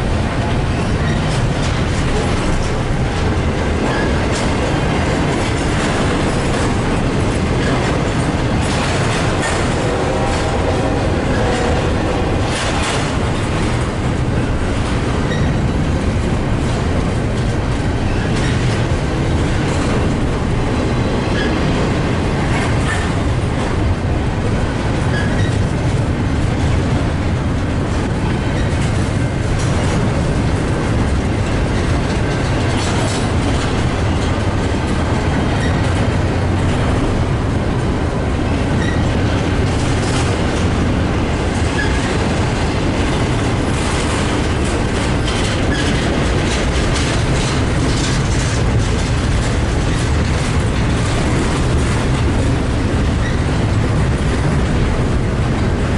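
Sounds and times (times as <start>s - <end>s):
train wheels rumbling on rails: 0.0s - 55.9s
wheels clicking over rail joints: 0.0s - 55.9s.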